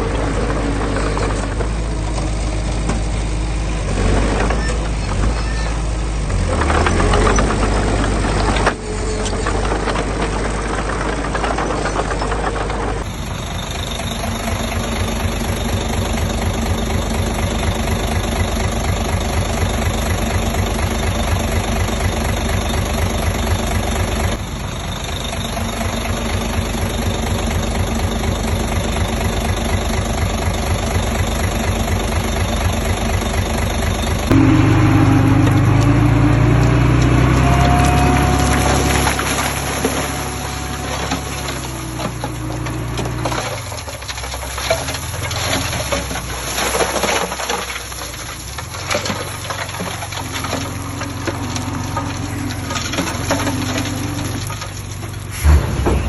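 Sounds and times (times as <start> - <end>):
heavy diesel engines clattering: 0.0 - 56.0.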